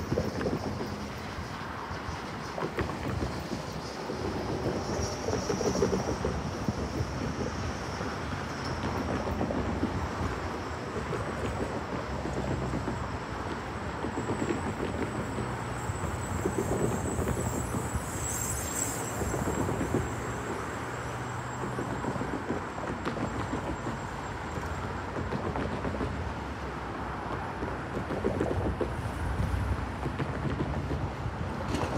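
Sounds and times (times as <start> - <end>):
distant train pulling away: 0.0 - 26.2
traffic noise: 0.0 - 31.9
wind: 0.0 - 31.9.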